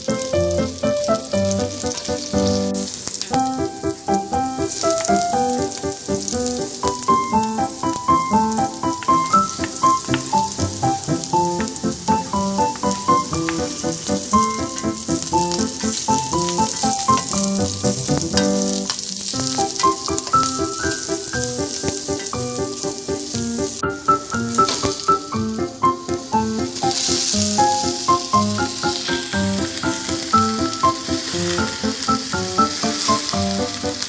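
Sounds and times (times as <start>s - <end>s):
melodic background music: 0.0s - 34.0s
vegetables sizzling in hot oil: 0.0s - 34.0s.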